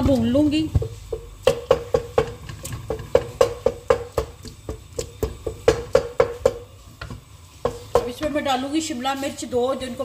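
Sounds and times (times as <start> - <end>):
spatula knocking metal pot: 0.0 - 8.5.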